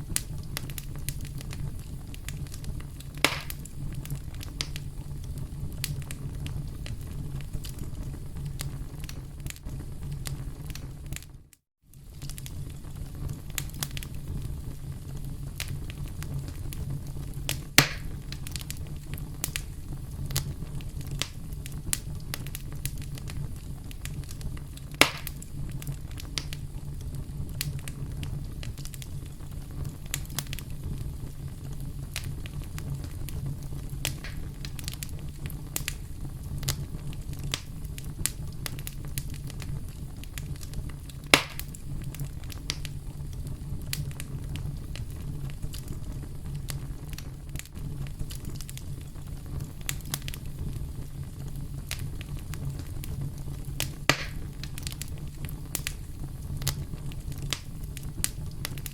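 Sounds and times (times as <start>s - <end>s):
campfire crackling: 0.0s - 58.9s
loud fire pops: 0.0s - 58.9s.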